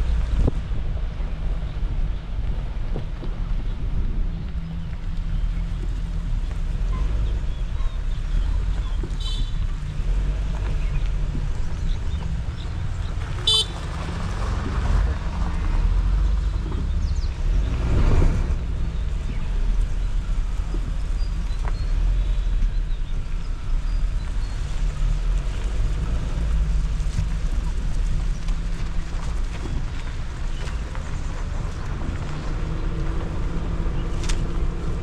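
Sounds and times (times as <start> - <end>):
car engine driving off-road: 0.0 - 35.0
road rumble: 0.0 - 35.0.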